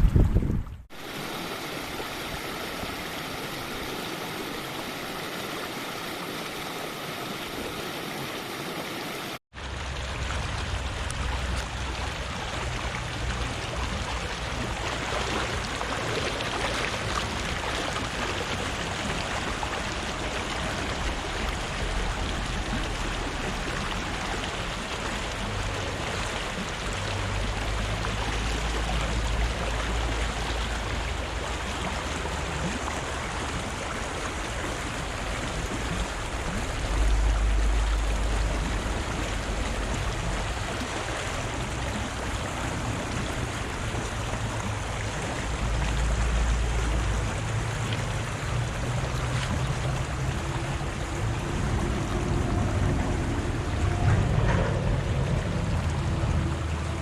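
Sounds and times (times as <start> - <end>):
deep water rumble: 0.0 - 8.0, 9.5 - 57.0
river water over rocks: 0.0 - 57.0.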